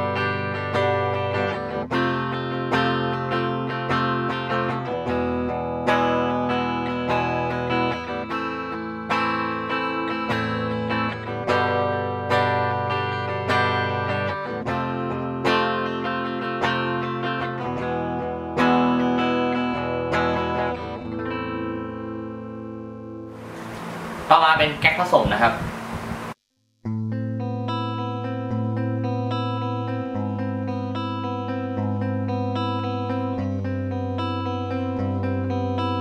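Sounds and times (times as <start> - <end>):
clean electric guitar chords: 0.0 - 26.3, 26.9 - 36.0.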